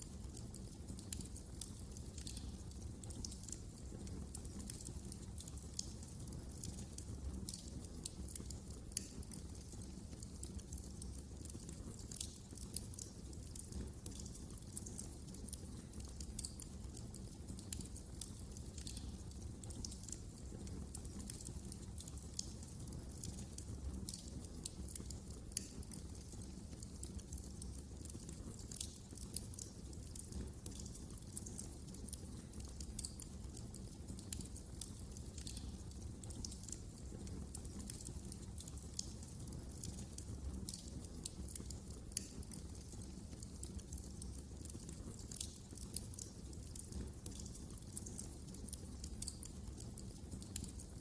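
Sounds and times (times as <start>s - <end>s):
fire snaps and pops: 0.0s - 51.0s
low rumble of burning logs: 0.0s - 51.0s.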